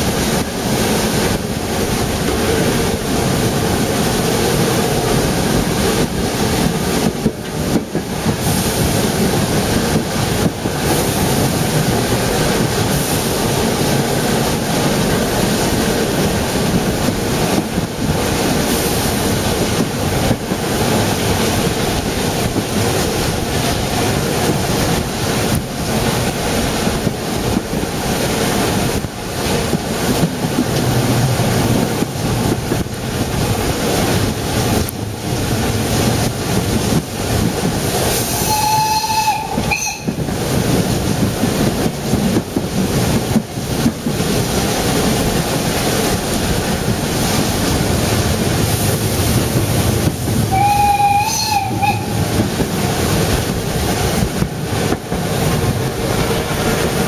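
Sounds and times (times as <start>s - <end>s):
running train rushing: 0.0s - 57.0s
wind buffeting microphone: 0.0s - 57.0s.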